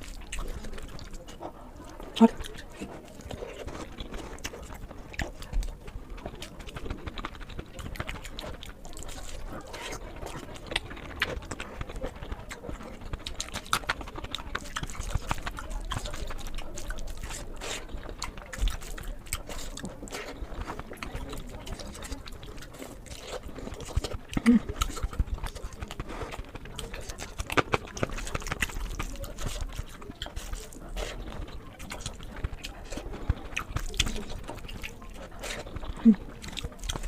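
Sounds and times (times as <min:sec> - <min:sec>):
lip smacking: 0:00.0 - 0:37.0
wet chewing: 0:00.0 - 0:37.0.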